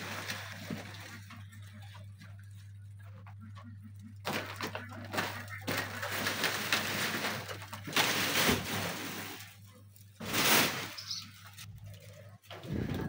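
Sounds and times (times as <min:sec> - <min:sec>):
plastic sheeting rustling: 0:00.0 - 0:02.6, 0:04.2 - 0:13.0
steady low hum: 0:00.0 - 0:13.0.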